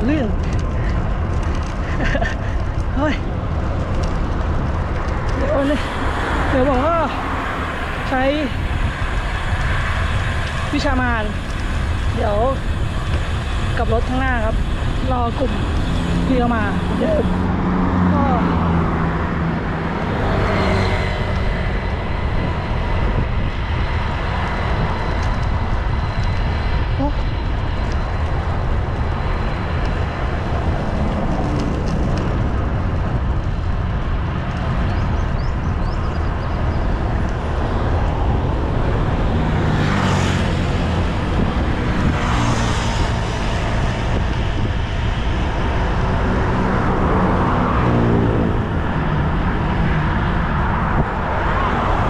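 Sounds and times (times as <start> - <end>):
vehicles passing: 0.0 - 52.0
wind buffeting microphone: 0.0 - 52.0.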